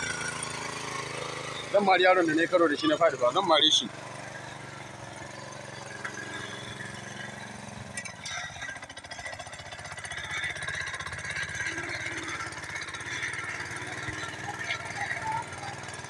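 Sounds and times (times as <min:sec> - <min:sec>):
small petrol engine under load: 0:00.0 - 0:16.0.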